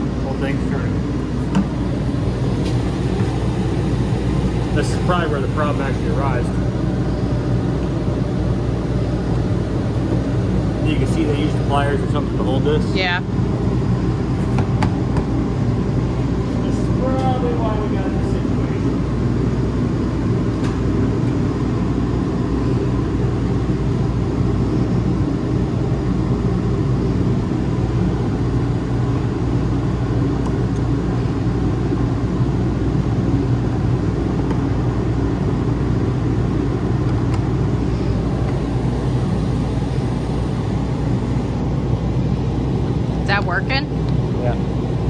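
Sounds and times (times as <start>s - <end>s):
motor rumbling: 0.0s - 45.0s.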